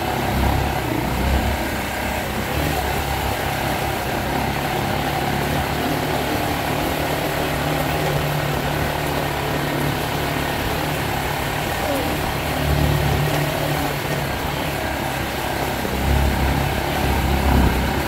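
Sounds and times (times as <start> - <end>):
motorcycle engine running: 0.0 - 18.0
tyres on cobblestones: 0.0 - 18.0.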